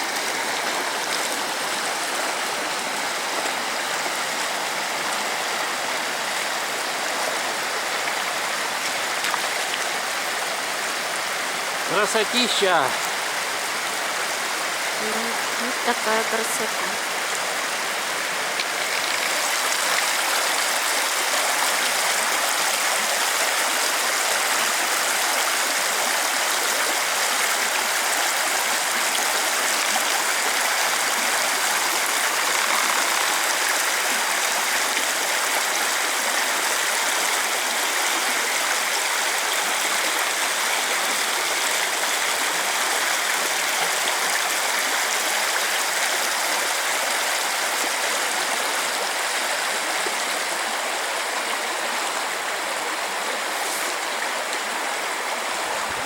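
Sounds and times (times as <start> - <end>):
rushing stream and waterfall: 0.0 - 56.0.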